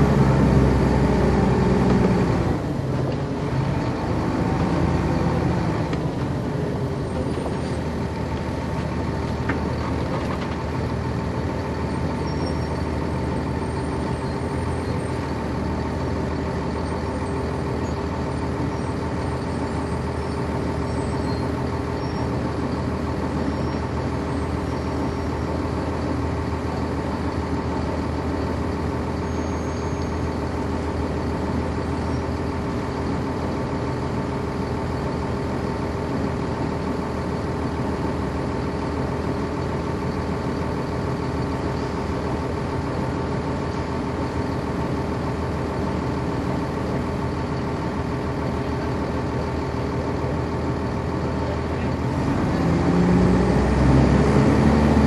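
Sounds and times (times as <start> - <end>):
diesel bus engine droning: 0.0 - 55.0.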